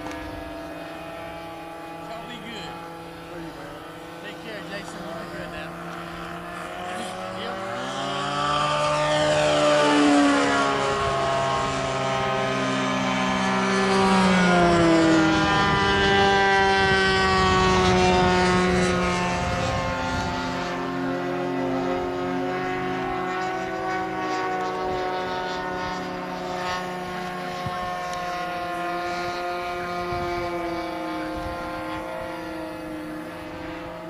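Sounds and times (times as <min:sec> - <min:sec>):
model plane engine flying overhead: 0:00.0 - 0:34.0.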